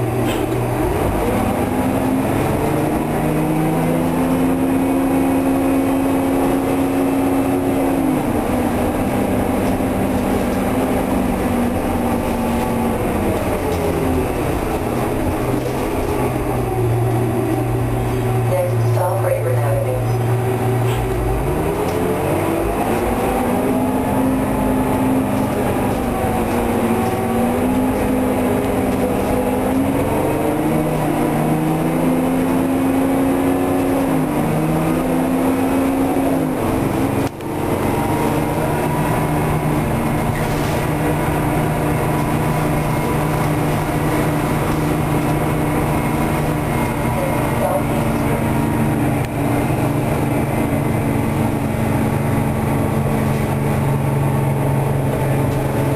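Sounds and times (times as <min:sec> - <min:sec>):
bus diesel engine shifting gears: 0:00.0 - 0:55.9.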